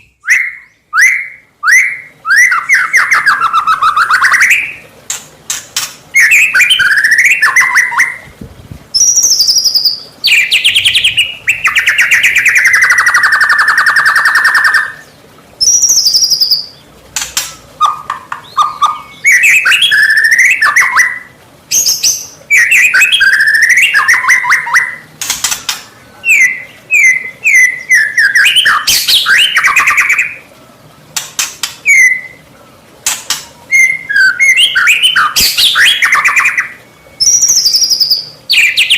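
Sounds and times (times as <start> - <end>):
songbird singing whistles and trills: 0.0 - 4.8, 5.5 - 30.5, 31.2 - 38.9.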